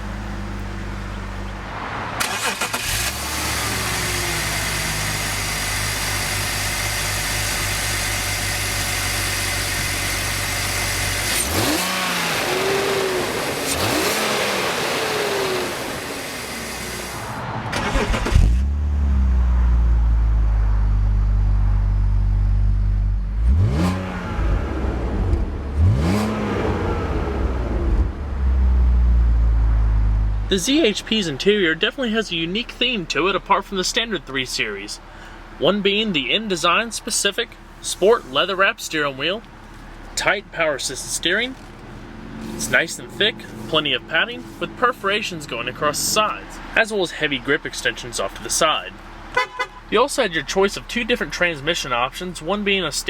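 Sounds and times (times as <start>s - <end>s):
car engine revving: 0.0s - 31.0s, 39.7s - 52.9s.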